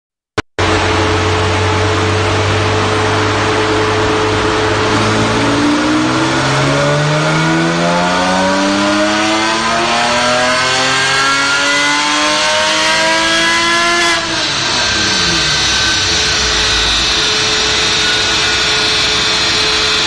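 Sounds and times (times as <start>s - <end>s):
car engine revving on dyno: 0.6s - 20.0s.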